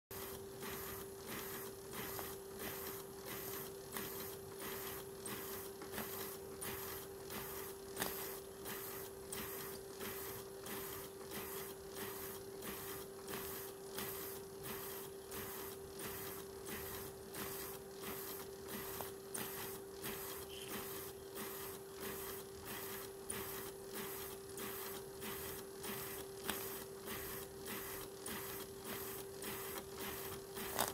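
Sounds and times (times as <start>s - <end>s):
steady hum: 0.1s - 30.9s.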